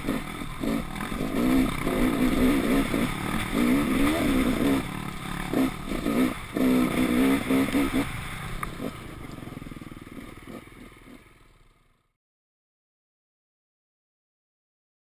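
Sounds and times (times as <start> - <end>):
two-stroke motorcycle engine revving: 0.0 - 12.1.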